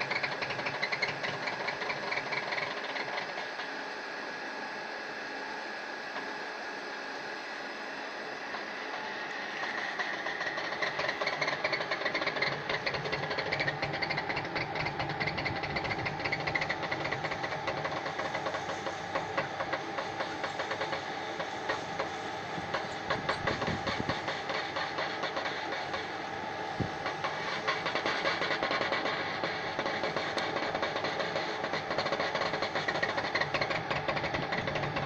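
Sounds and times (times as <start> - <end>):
rapid clicking and crackling: 0.0 - 3.6, 9.6 - 35.0
machine tone: 0.0 - 35.0.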